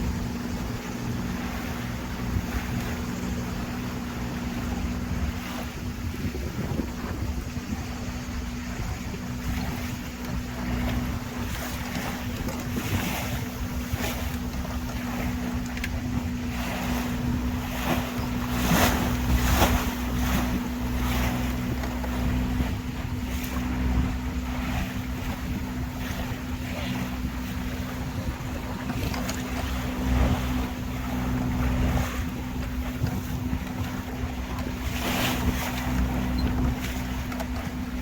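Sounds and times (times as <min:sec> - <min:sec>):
boat engine droning: 0:00.0 - 0:38.0
water splashing against hull: 0:00.0 - 0:38.0
wind on microphone: 0:00.0 - 0:38.0.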